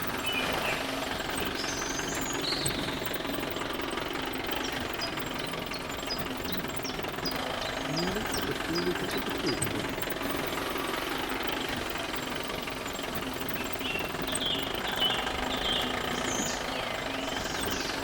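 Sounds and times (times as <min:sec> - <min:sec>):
electric gear motors clattering: 0:00.0 - 0:18.0.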